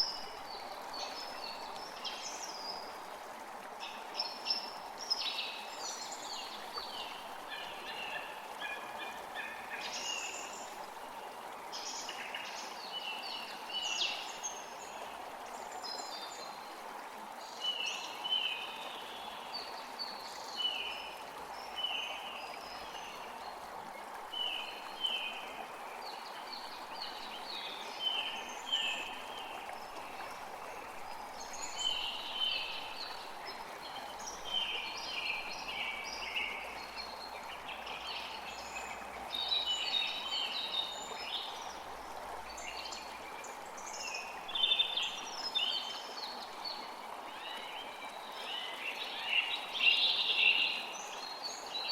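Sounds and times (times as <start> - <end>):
creek rushing: 0.0 - 51.9.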